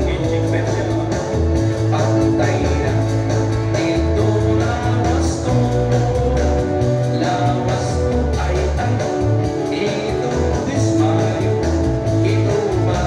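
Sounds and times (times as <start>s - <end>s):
dance song with singing: 0.0s - 13.0s.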